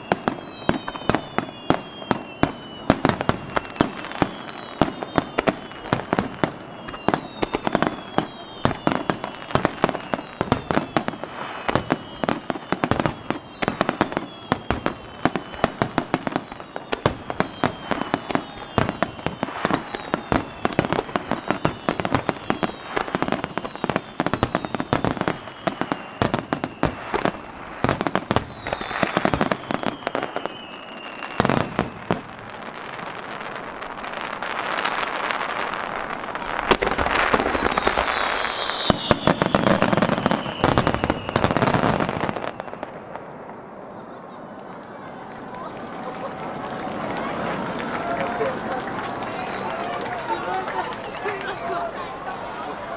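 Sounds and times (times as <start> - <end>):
firework crackling hiss: 0.0 - 43.1
falling firework whistles: 0.0 - 44.4.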